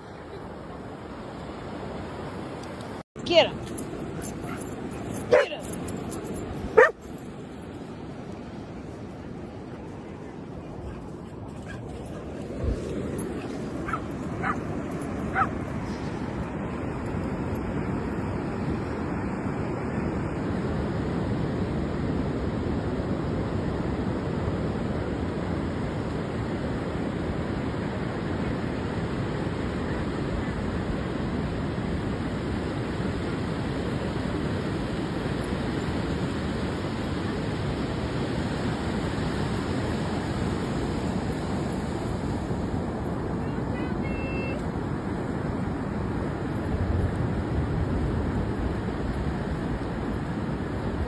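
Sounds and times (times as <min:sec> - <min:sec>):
ocean surf: 0:00.0 - 0:51.0
wind: 0:00.0 - 0:51.0.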